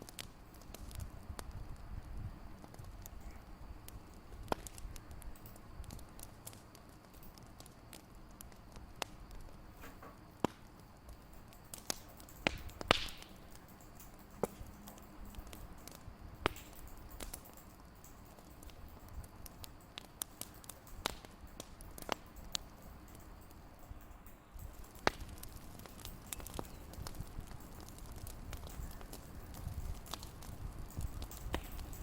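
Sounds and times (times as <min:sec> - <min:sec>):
fire crackling and popping: 0:00.0 - 0:32.0
fire hiss: 0:00.0 - 0:32.0
low fire rumble: 0:00.0 - 0:32.0.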